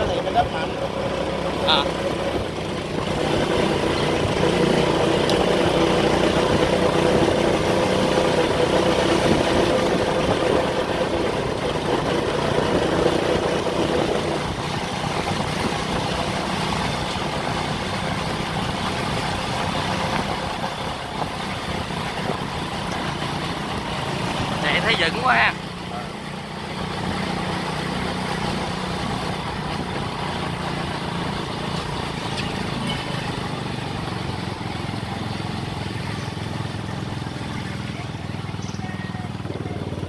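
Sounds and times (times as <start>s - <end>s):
motorbike engines running: 0.0s - 40.0s
road and wind noise: 0.0s - 40.0s.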